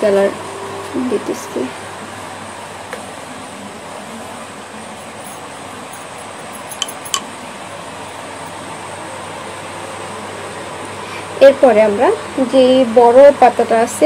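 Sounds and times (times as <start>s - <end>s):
mechanical room hum: 0.0s - 14.0s.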